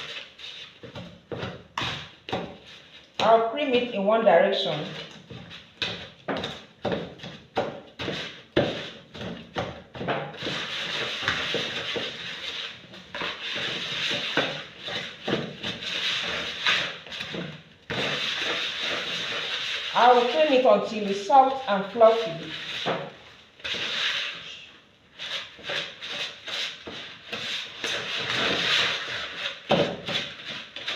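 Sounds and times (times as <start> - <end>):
wooden spoon scraping plastic bowl: 0.0 - 30.9.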